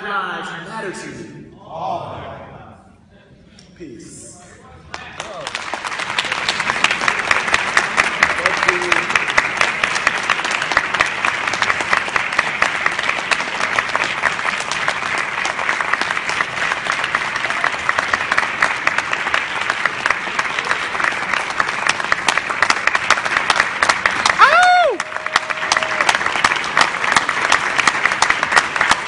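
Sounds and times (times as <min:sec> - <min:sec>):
audience applauding: 0:04.9 - 0:29.0.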